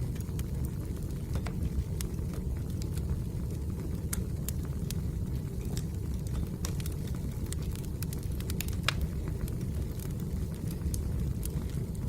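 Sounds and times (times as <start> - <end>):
logs crackling and popping: 0.0 - 12.0
low rumble of flames: 0.0 - 12.0.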